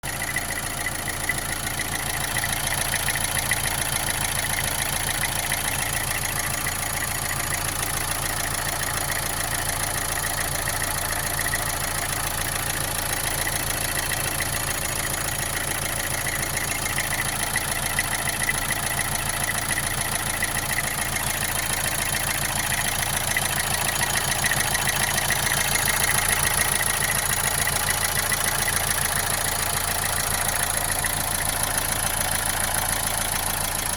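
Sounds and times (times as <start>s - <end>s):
diesel engine idling with knocking: 0.0s - 33.9s.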